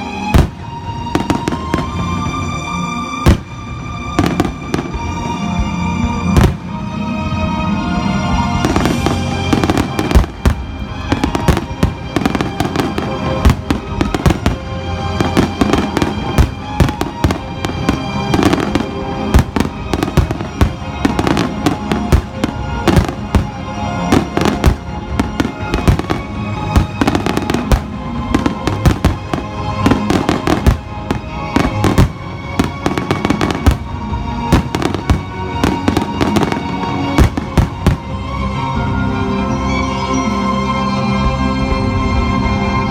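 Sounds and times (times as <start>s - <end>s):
fireworks bangs and crackles: 0.0s - 39.0s
music playing: 0.0s - 42.9s.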